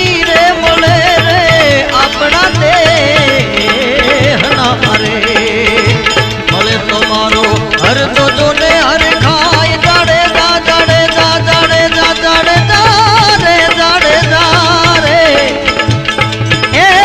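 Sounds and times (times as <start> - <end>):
ornamented melodic lead: 0.0 - 17.0.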